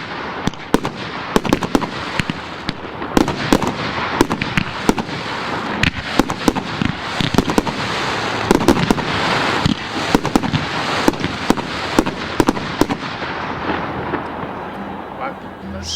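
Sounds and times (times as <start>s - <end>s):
continuous hiss: 0.0s - 15.9s
fireworks banging: 0.0s - 15.9s.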